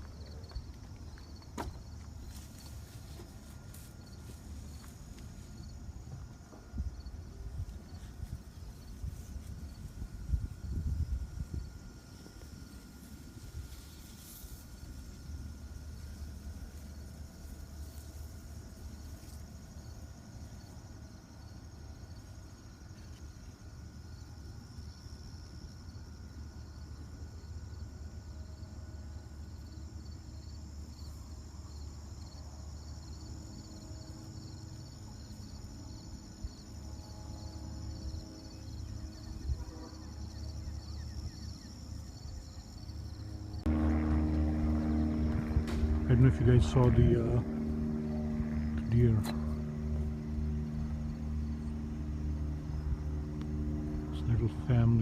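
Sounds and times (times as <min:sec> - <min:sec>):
insects chirping: 0:00.0 - 0:55.0
low steady rumble: 0:00.0 - 0:55.0.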